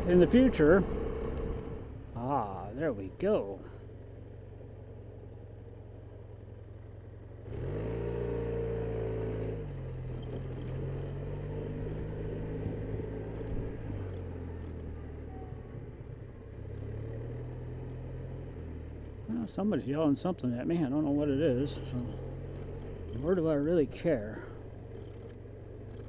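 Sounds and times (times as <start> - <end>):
scooter engine: 0.0 - 19.7, 20.5 - 26.0.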